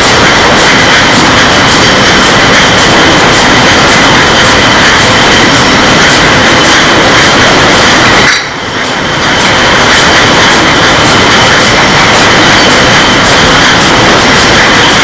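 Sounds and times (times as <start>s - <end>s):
machine din: 0.0s - 15.0s.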